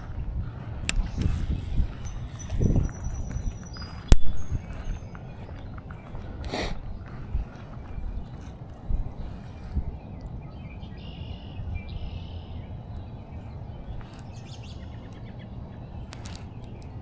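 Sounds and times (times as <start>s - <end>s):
low outdoor rumble: 0.0s - 17.0s
bird chirping: 0.9s - 17.0s.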